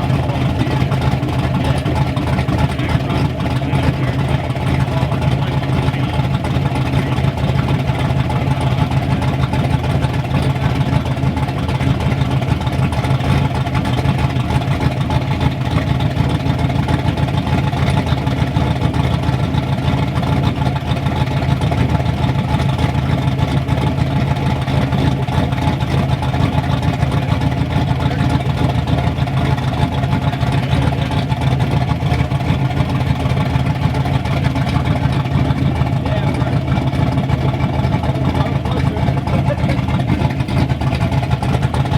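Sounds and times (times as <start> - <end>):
turbocharged engine idling: 0.0 - 41.9.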